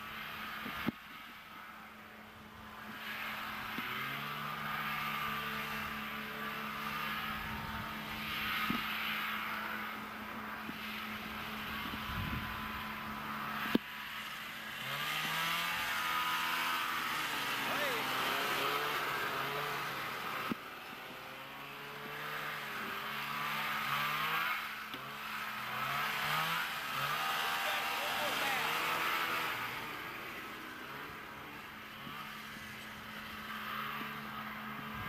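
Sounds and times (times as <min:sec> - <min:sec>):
snowmobile engine running: 0:00.0 - 0:35.0.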